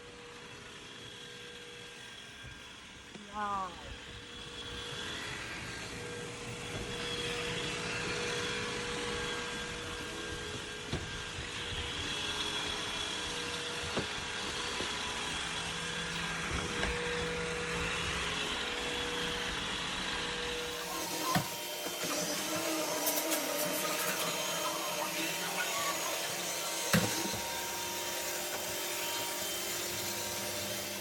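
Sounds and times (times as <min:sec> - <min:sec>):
robot vacuum whirring: 0:00.0 - 0:31.0.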